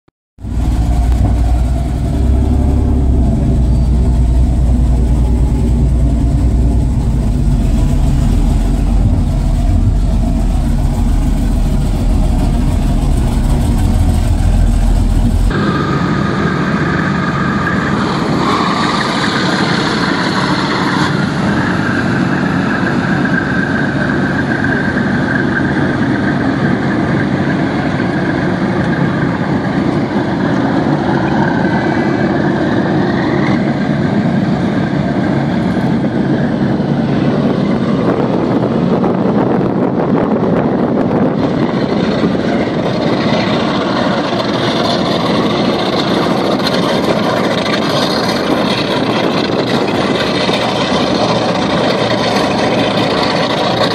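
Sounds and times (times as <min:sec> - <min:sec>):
boat engine underway: 0:00.4 - 0:53.9
boat engines throbbing: 0:00.4 - 0:53.9
steady whine: 0:00.4 - 0:53.9.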